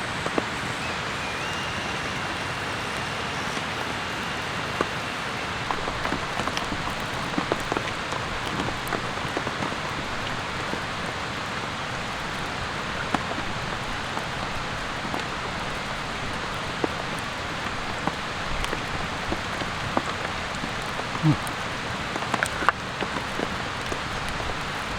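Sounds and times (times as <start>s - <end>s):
raindrops ticking close by: 0.0s - 24.9s
steady rain hiss: 0.0s - 24.9s.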